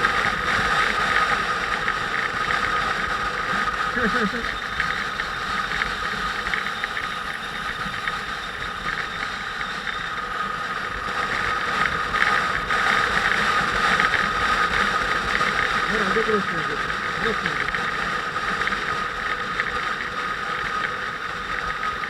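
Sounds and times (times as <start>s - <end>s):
high whine: 0.0s - 22.0s
motorcycle engine running: 0.0s - 22.0s.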